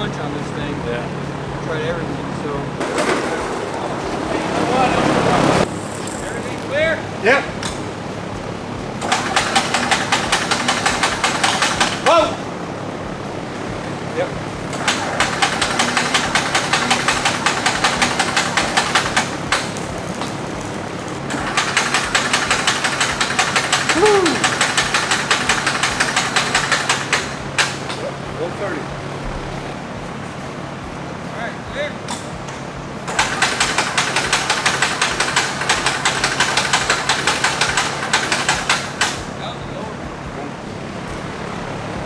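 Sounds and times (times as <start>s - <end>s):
piston aircraft engine running: 0.0s - 42.0s.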